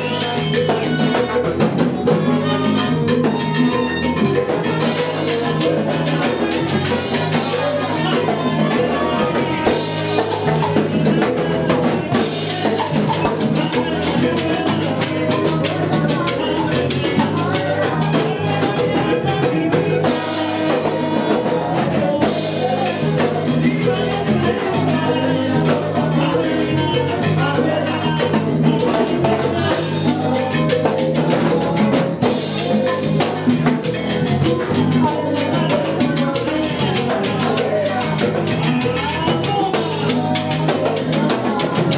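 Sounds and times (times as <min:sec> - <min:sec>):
drums and percussion: 0:00.0 - 0:41.9
sustained bass and chords: 0:00.0 - 0:41.9.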